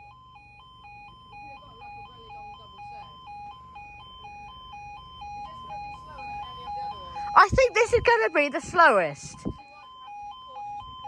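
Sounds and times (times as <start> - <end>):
level crossing alarm warble: 0.0 - 11.0.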